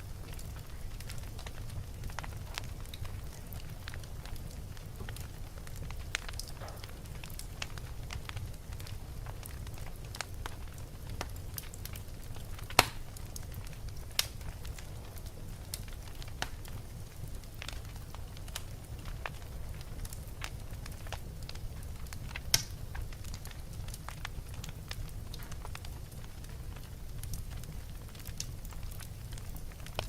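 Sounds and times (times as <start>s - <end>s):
fire crackles and pops: 0.0s - 30.0s
fire rumbling in fireplace: 0.0s - 30.0s.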